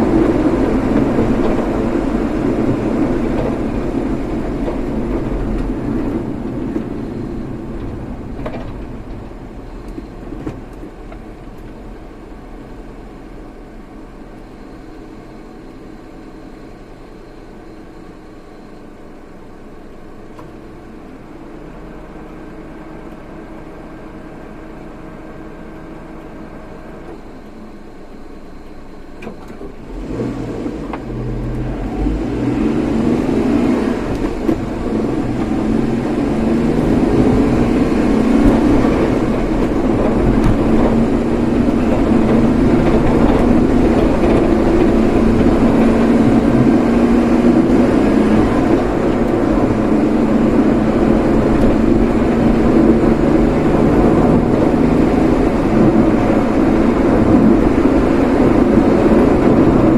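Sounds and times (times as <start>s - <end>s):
car pulling away: 0.0s - 59.9s
engine and road noise: 0.0s - 59.9s.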